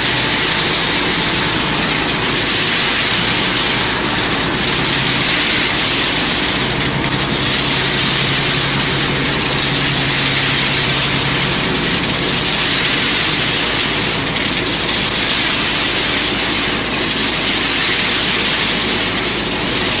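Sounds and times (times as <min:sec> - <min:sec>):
machine motor and drum running: 0:00.0 - 0:20.0
wet gravel rattling and pouring: 0:00.0 - 0:20.0.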